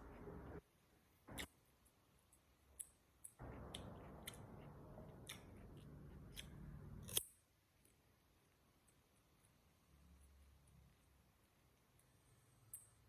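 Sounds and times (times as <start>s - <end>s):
food handling and eating: 0.0s - 13.0s.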